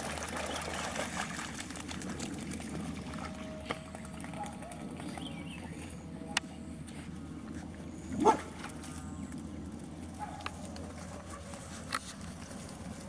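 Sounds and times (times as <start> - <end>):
low outdoor background: 0.0 - 13.0.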